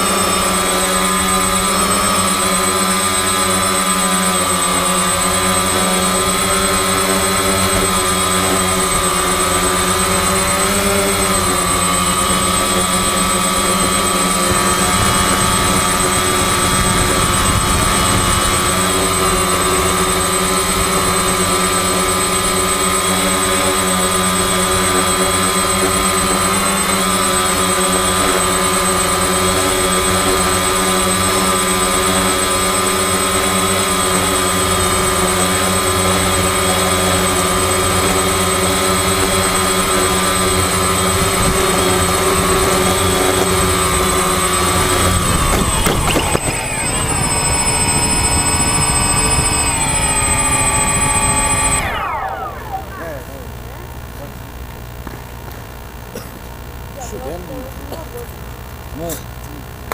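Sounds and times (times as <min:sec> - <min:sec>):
quadcopter motors whining: 0:00.0 - 0:59.9.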